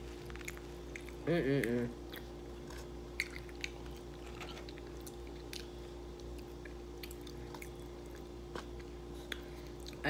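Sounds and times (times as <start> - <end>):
chewing food: 0.0 - 10.0
steady low hum: 0.0 - 10.0.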